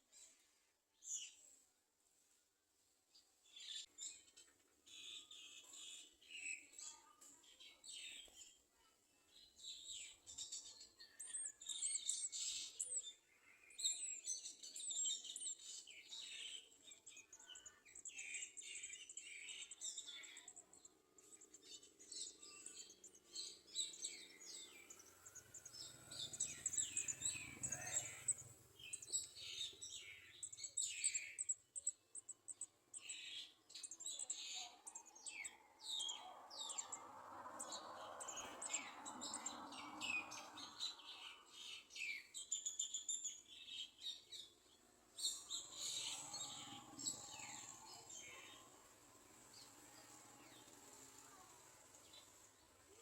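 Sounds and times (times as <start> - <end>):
birds chirping: 3.5 - 53.0.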